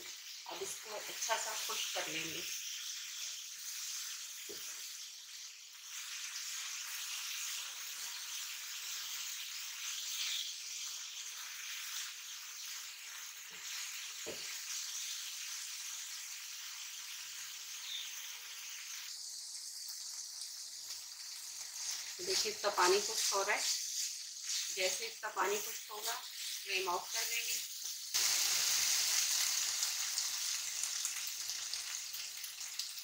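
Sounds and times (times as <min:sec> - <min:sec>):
vegetables sizzling in frying pan: 0:00.0 - 0:33.0.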